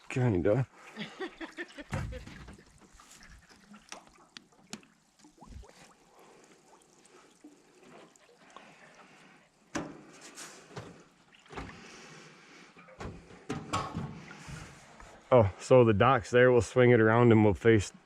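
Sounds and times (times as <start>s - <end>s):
water trickling and splashing: 0.0s - 15.2s.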